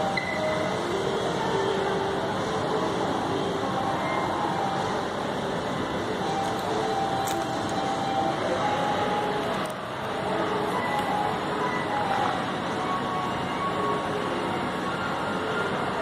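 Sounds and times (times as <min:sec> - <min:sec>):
distant crowd hubbub: 0:00.0 - 0:16.0.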